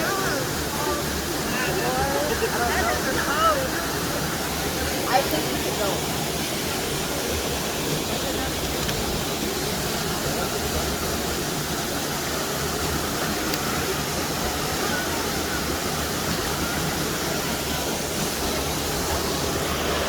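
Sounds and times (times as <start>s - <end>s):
waterfall pouring into pond: 0.0s - 20.0s.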